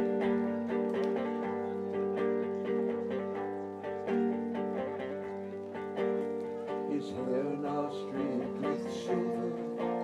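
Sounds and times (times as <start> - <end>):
acoustic guitar playing: 0.0 - 10.0.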